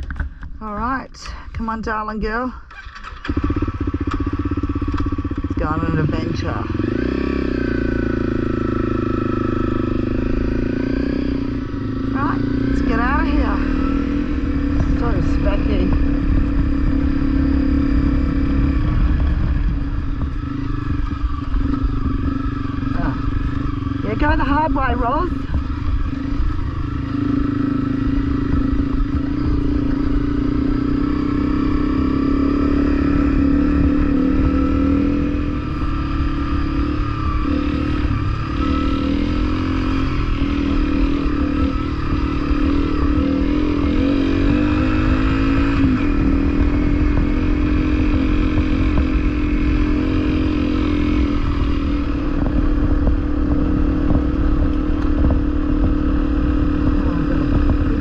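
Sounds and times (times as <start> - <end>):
low rumble: 0.0 - 58.0
motorcycle engine revving: 0.0 - 58.0.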